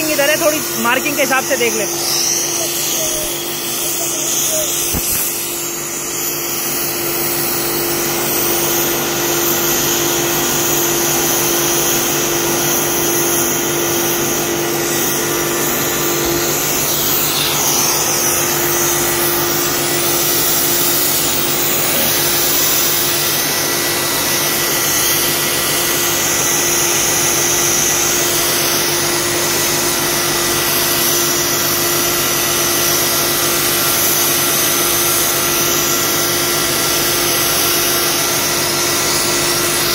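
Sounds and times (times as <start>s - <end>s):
cutting torch hissing: 0.0s - 39.9s.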